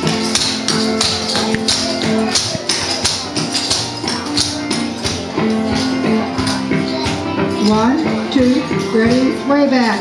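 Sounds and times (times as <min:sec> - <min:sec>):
country music: 0:00.0 - 0:10.0.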